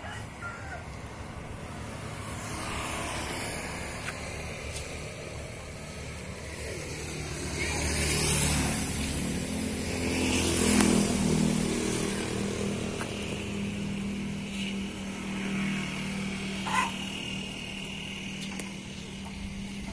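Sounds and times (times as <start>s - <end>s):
vehicle engine running: 0.8s - 19.9s.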